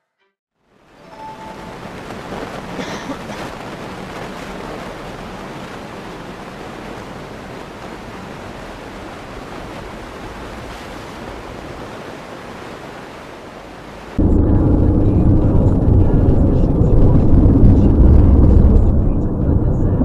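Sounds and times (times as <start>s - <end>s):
car road and wind noise: 1.8s - 20.0s.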